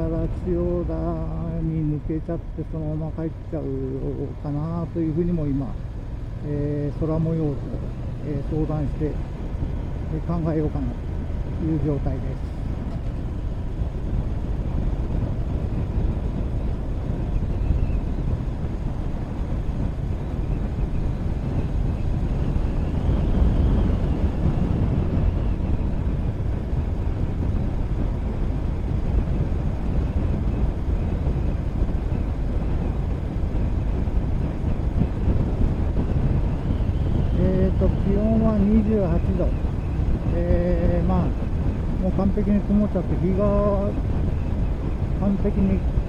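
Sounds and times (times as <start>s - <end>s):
motorcycle engine rumble: 0.0s - 46.0s
wind on microphone: 0.0s - 46.0s.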